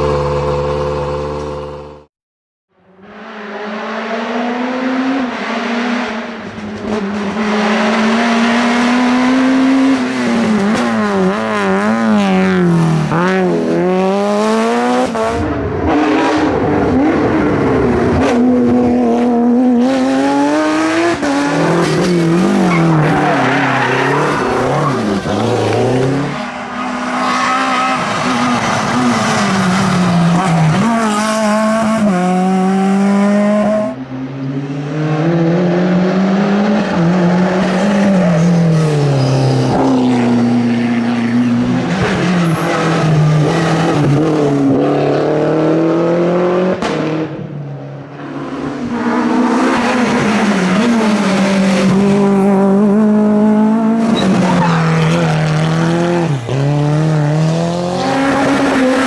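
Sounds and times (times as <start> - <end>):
rally car engines revving hard: 3.0 - 34.0, 34.6 - 59.0.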